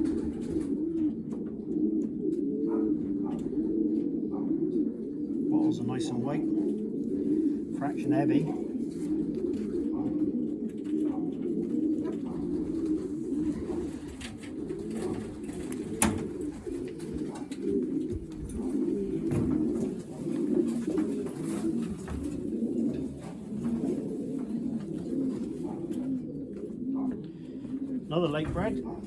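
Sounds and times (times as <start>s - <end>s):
pigeons cooing: 0.0s - 29.0s.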